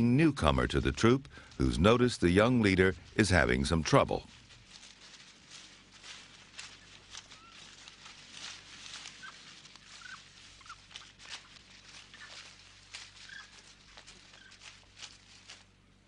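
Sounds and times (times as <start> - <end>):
rustling and crunching: 0.0 - 16.0.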